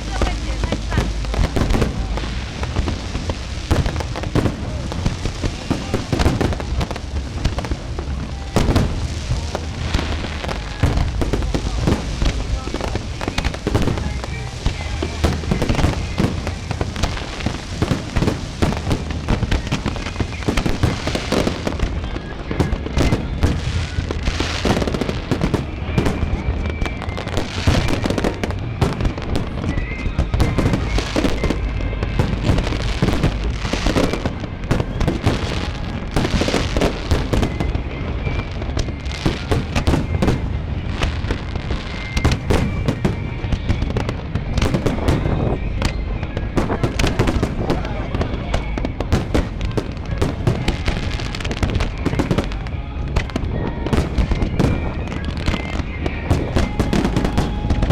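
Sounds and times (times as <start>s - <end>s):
fireworks bursts and crackling: 0.0s - 57.9s.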